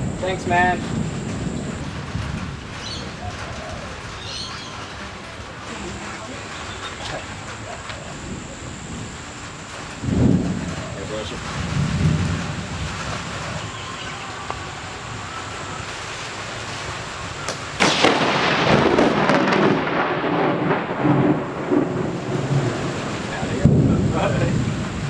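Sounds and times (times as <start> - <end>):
steady rain: 0.0 - 25.0
thunder crack and rumble: 0.0 - 25.0.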